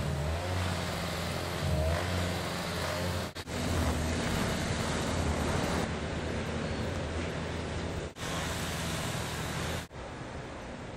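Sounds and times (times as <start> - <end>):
road noise: 0.0 - 10.9.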